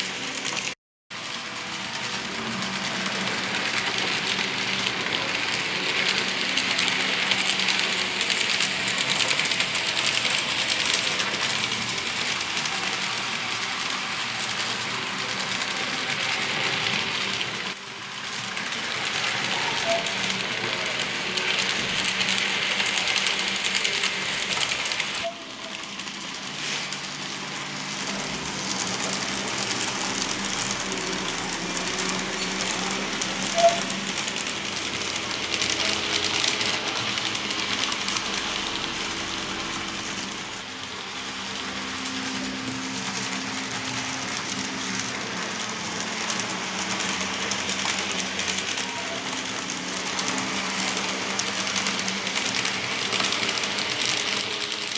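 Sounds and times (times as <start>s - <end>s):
wheel and rail noise: 0.0s - 54.9s.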